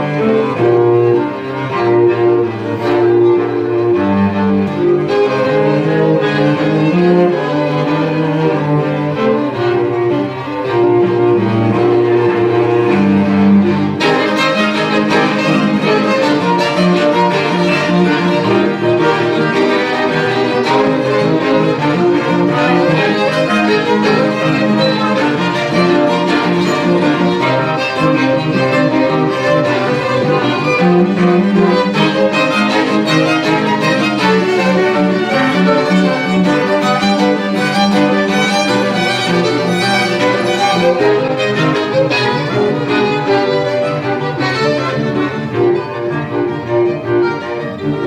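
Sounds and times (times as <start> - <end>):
string quartet playing: 0.0 - 48.0.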